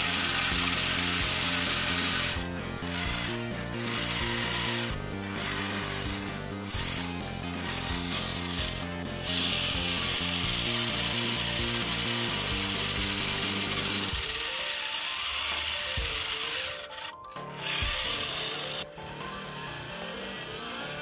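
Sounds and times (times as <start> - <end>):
background music: 0.0 - 21.0
electric gear motor whining: 0.0 - 21.0.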